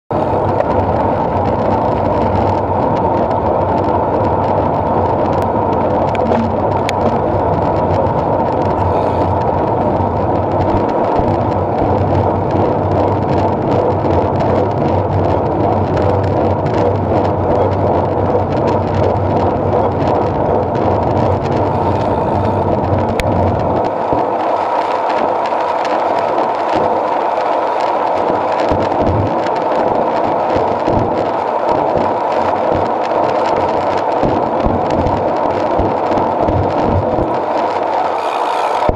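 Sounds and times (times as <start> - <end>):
bicycle tyres rolling on asphalt: 0.1 - 38.9
wind rushing over microphone: 0.1 - 38.9.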